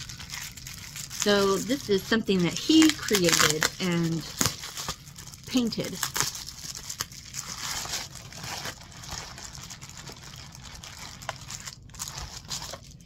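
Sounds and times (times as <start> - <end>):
wrapping crinkling and rustling: 0.0 - 13.0.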